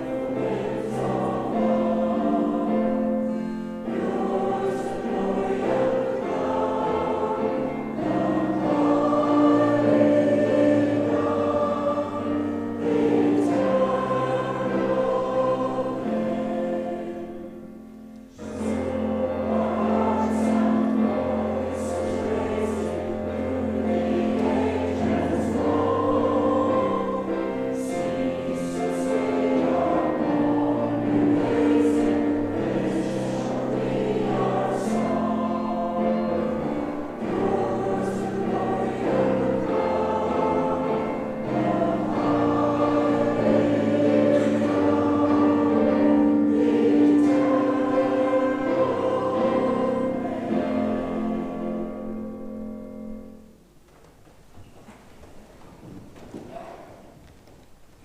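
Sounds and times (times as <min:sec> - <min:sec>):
choir singing a hymn: 0:00.0 - 0:53.6.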